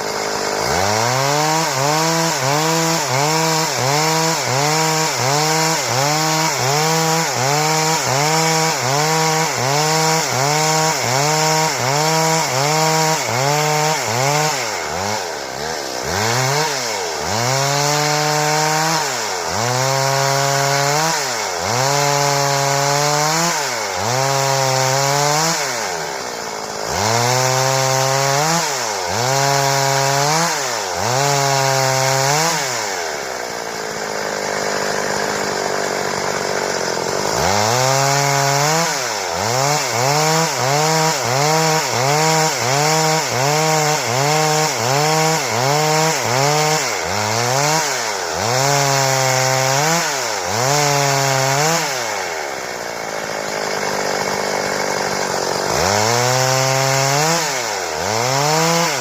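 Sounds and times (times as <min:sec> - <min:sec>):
chainsaw cutting boards: 0:00.0 - 0:59.0.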